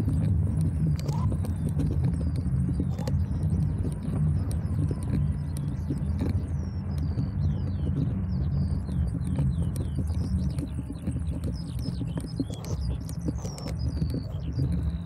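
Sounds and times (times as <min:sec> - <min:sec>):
bicycle tyres rumbling: 0:00.0 - 0:15.0
bike clicks and rattles: 0:00.0 - 0:15.0
wind on microphone: 0:00.0 - 0:15.0.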